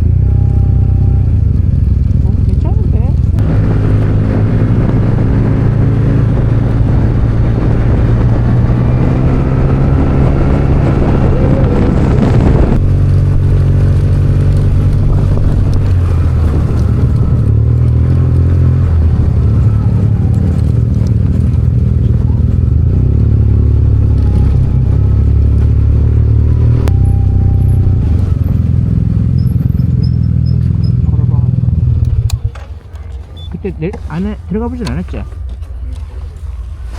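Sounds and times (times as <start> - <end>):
scooter engine running: 0.0 - 36.9.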